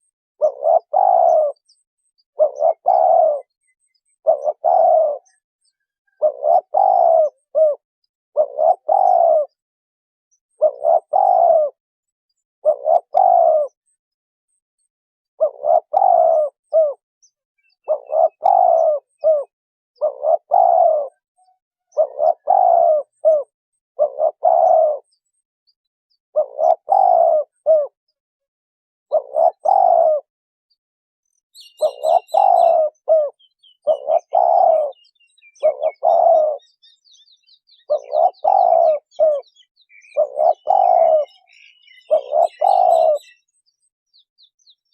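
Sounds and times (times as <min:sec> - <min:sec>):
dove cooing: 0:00.0 - 0:09.6, 0:10.5 - 0:11.8, 0:12.6 - 0:14.0, 0:15.4 - 0:17.0, 0:17.6 - 0:25.4, 0:26.4 - 0:28.0, 0:29.1 - 0:30.3, 0:31.6 - 0:43.5
small birds chirping: 0:00.0 - 0:09.6, 0:10.3 - 0:28.5, 0:29.1 - 0:44.9.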